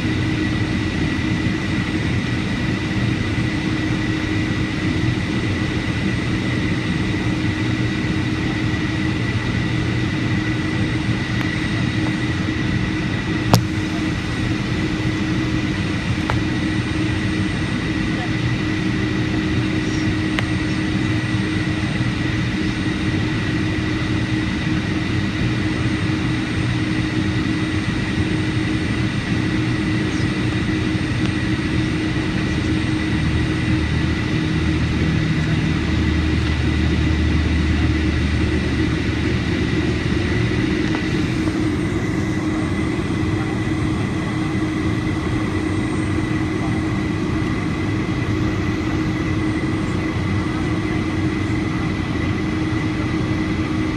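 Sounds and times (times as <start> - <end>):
constant whine: 0.0 - 53.9
jet engines and airflow in cabin: 0.0 - 53.9.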